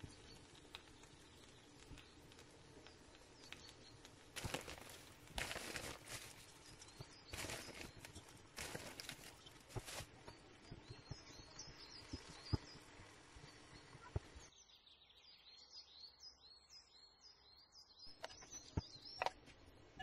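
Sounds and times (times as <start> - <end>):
small bird chirping: 0.0 - 19.4.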